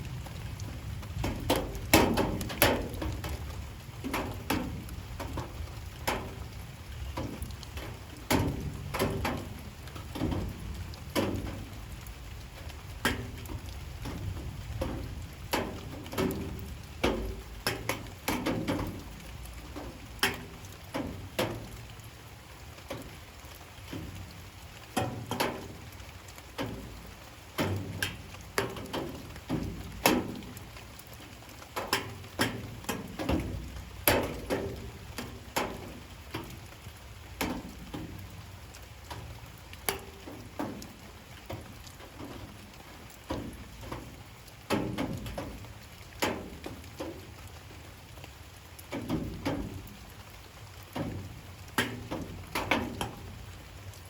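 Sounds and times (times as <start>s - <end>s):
raindrops tapping on hard surface: 0.0s - 54.0s.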